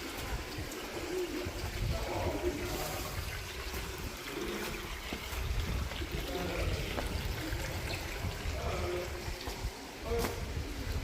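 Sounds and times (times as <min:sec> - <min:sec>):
water trickling in a stream: 0:00.0 - 0:11.0.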